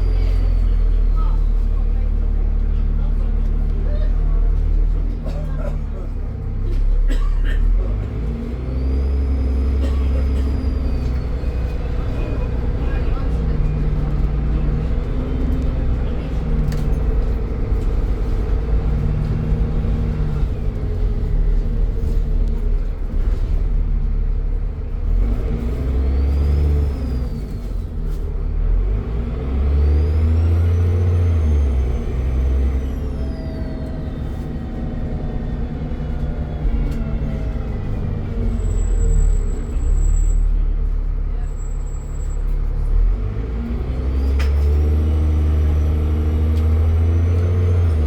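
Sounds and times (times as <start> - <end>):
bus engine running under load: 0.0 - 48.0.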